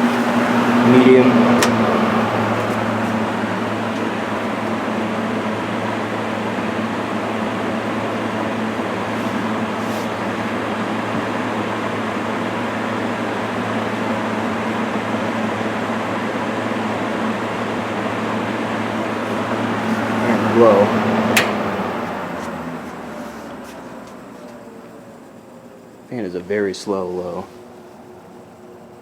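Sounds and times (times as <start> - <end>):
box fan running: 0.0 - 29.0.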